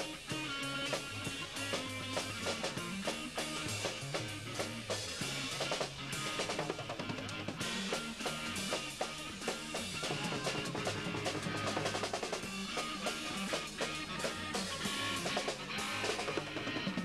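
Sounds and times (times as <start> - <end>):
drum kit beating: 0.0 - 17.0
held bass notes: 0.0 - 17.0
live band playing: 0.0 - 17.0.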